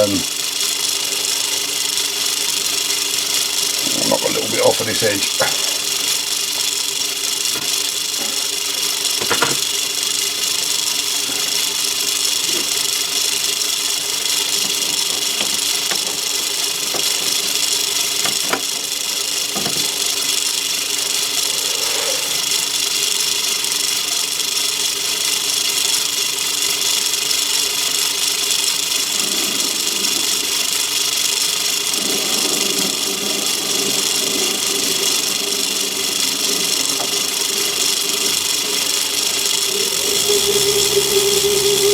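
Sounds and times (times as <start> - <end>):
lathe motor hum and whine: 0.0 - 41.9.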